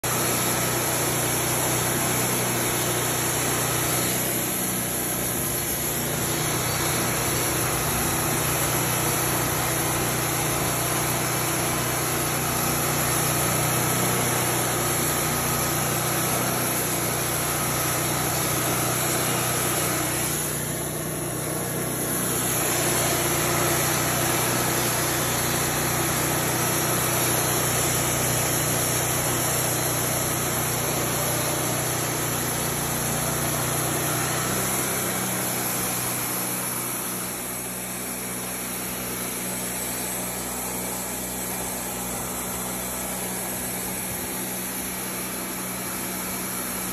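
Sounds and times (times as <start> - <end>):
band sawmill cutting log: 0.0 - 46.9.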